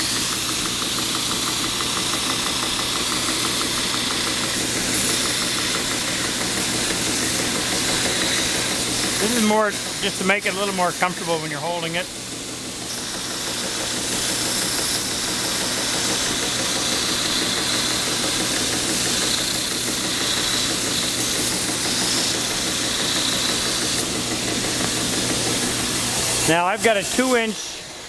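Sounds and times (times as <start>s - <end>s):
sander motor hum: 0.0s - 28.0s
sanding belt hiss: 0.0s - 28.0s.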